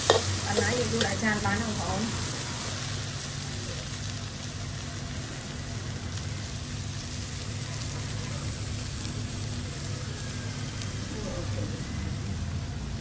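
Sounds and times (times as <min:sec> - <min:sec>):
squid sizzling in a wok: 0:00.0 - 0:13.0.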